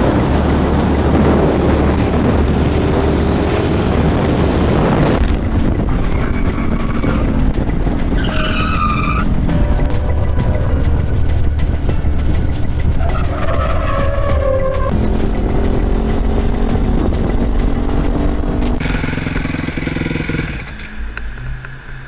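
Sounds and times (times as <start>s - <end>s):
motorcycle engine rumble: 0.0s - 22.0s
wind noise on microphone: 0.0s - 22.0s.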